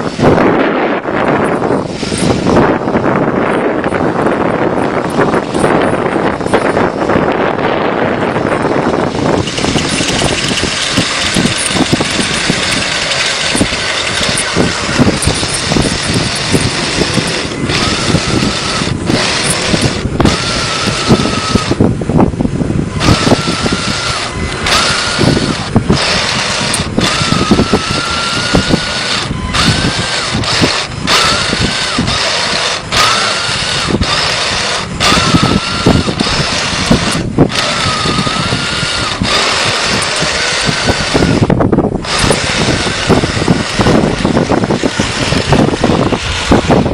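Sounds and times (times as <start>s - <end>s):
electric motors whining: 0.0s - 46.9s.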